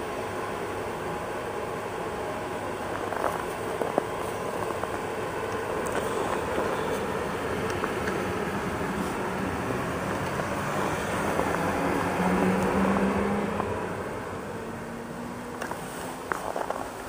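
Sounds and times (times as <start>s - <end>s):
electric train rumble: 0.0s - 17.0s
low electric hum: 0.0s - 17.0s.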